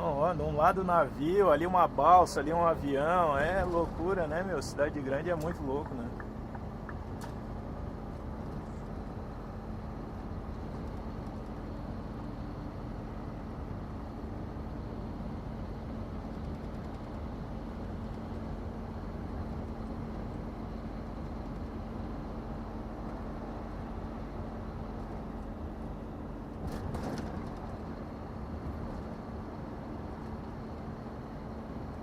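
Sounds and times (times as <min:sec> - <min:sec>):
road and wind noise: 0:00.0 - 0:32.0
truck engine running: 0:00.0 - 0:32.0.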